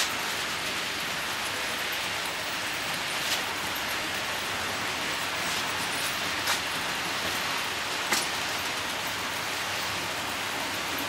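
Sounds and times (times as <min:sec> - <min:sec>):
model trains rolling on track: 0:00.0 - 0:11.0.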